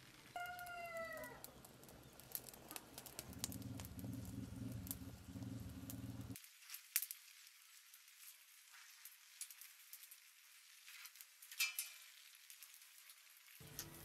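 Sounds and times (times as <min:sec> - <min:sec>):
kebabs sizzling over embers: 0:00.0 - 0:14.0
small crackles and pops: 0:00.0 - 0:14.0.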